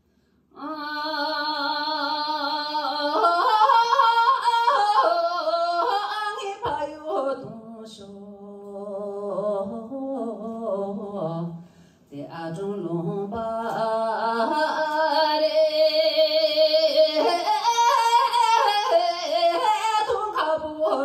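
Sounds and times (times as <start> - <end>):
woman singing into a microphone: 0.5 - 21.0.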